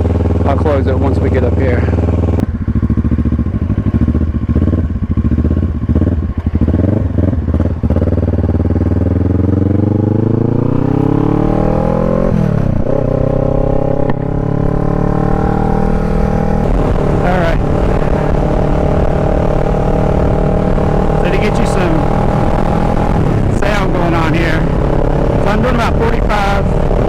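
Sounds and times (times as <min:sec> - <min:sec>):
gear change: 0:00.0 - 0:27.0
motorcycle engine revving: 0:00.0 - 0:27.0.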